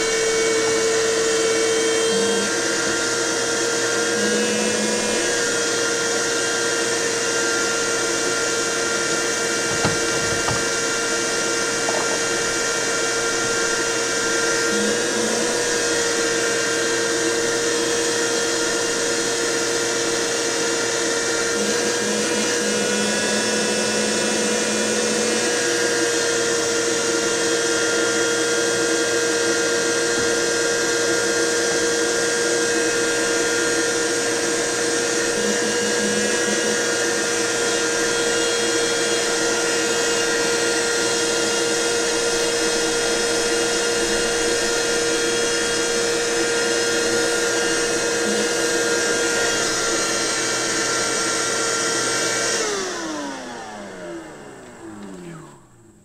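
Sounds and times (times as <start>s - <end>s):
small motor whining: 0.0s - 56.0s.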